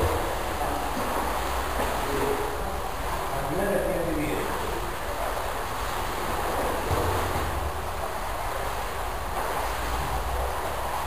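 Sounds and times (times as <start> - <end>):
swimmers splashing in pool: 0.0 - 11.0.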